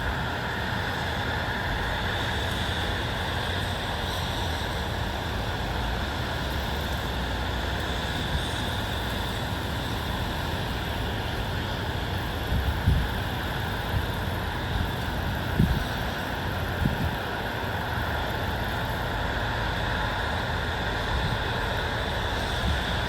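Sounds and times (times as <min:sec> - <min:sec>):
outdoor hiss: 0:00.0 - 0:23.0.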